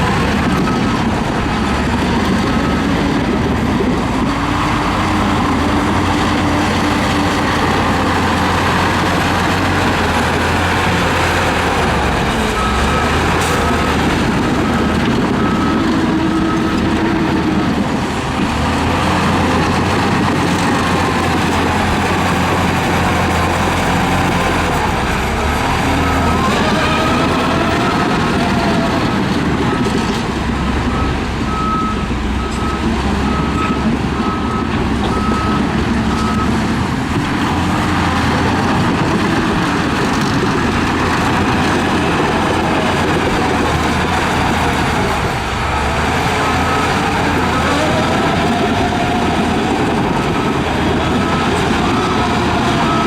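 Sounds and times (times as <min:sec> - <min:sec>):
bulldozer diesel engine under load: 0:00.0 - 0:53.0.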